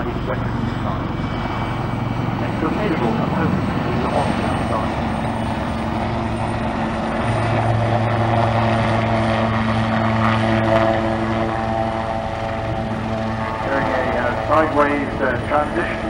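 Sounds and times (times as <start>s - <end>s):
propeller aircraft engine: 0.0s - 16.0s.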